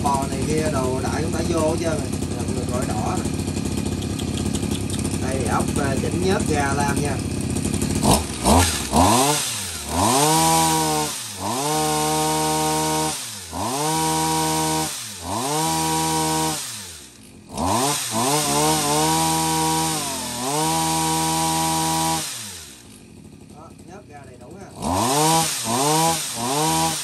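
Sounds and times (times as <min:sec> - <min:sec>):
two-stroke engine revving: 0:00.0 - 0:27.0.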